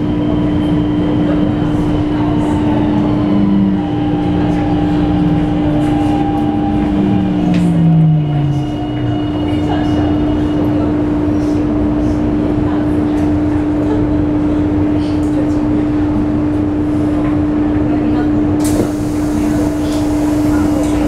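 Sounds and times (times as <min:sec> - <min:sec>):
train running with hum: 0:00.0 - 0:21.0.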